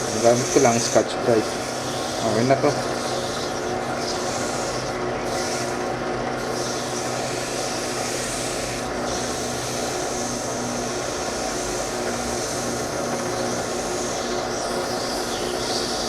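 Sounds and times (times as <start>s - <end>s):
abrasive pad hissing on metal: 0.0s - 16.0s
small electric motor running: 0.0s - 16.0s.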